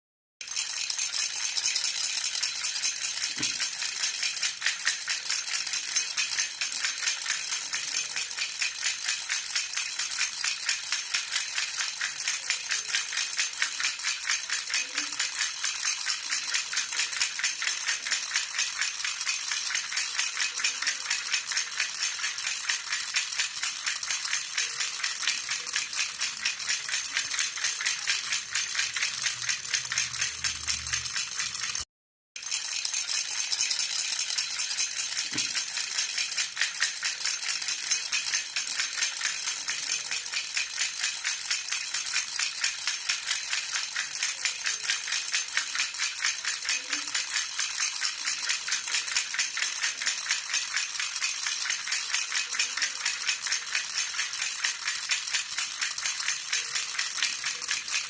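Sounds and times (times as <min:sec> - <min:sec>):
baby rattle jingling: 0:00.4 - 0:58.0.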